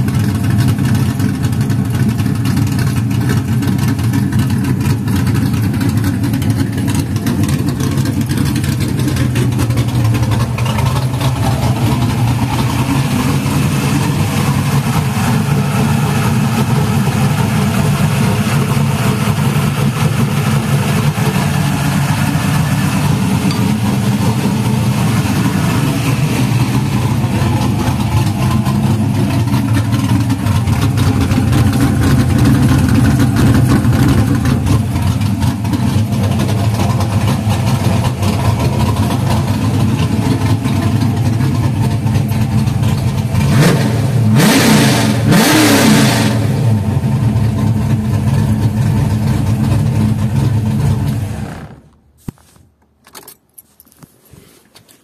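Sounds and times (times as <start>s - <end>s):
car engine idling and revving: 0.0s - 54.4s.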